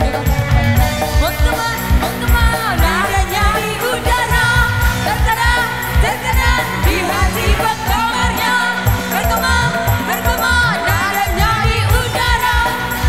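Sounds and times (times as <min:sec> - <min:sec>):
drum kit beating: 0:00.0 - 0:13.0
electric guitar: 0:00.0 - 0:13.0
keyboard: 0:00.0 - 0:13.0
women singing: 0:00.0 - 0:13.0.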